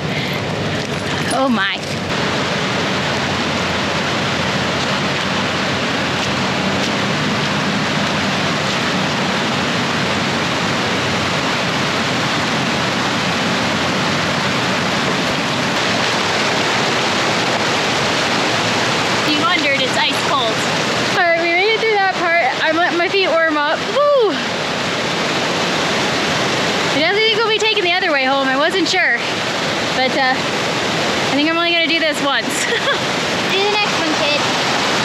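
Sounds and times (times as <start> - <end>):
fast-flowing water rushing: 0.0 - 35.0.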